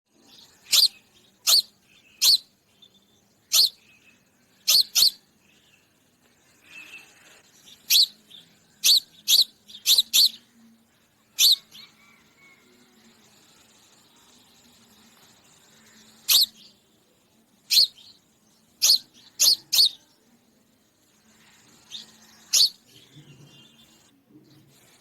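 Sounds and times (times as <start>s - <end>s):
sparrow chirping: 0.2s - 6.0s, 6.6s - 10.6s, 11.3s - 16.9s, 17.5s - 20.3s, 21.0s - 25.0s.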